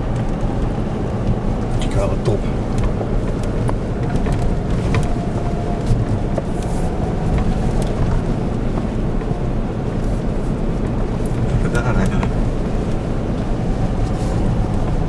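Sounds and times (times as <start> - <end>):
engine and tyre drone: 0.0 - 15.0.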